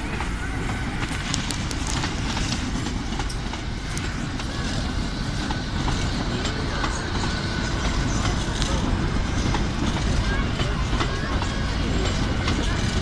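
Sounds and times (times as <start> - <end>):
train rolling past: 0.0 - 13.0.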